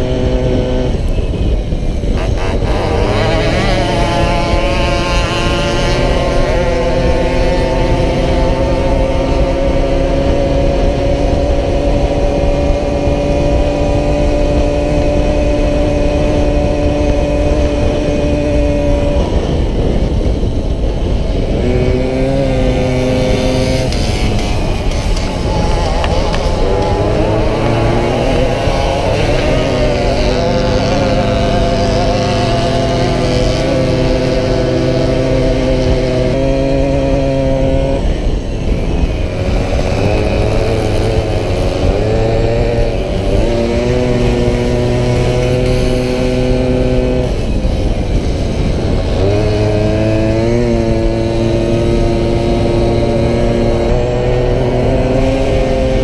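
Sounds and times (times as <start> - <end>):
moped engine at high revs: 0.0 - 56.0
wind rushing on microphone: 0.0 - 56.0.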